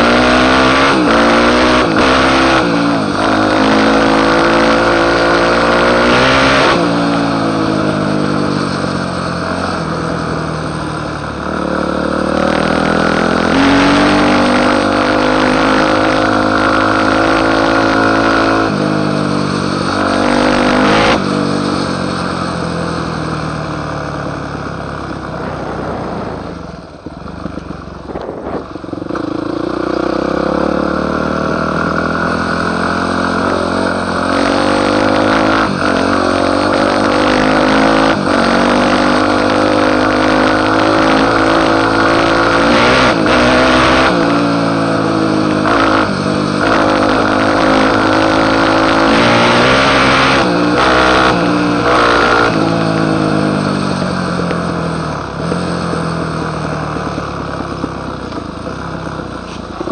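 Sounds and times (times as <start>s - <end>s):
motocross engine revving: 0.0s - 56.4s.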